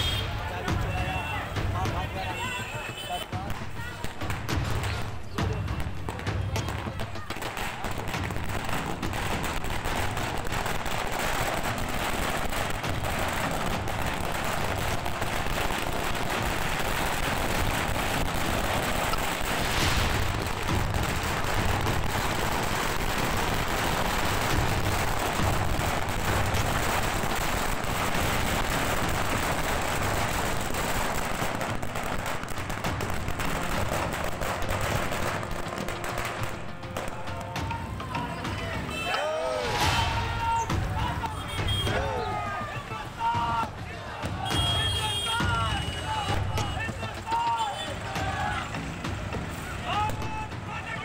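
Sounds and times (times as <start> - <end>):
firecrackers crackling: 0.0 - 51.0.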